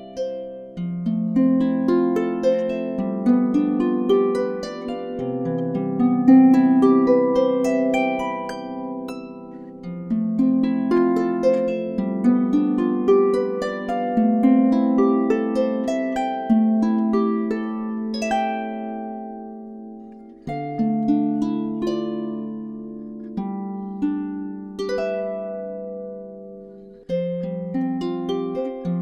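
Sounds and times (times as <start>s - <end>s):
harp playing gentle melody: 0.0s - 29.0s.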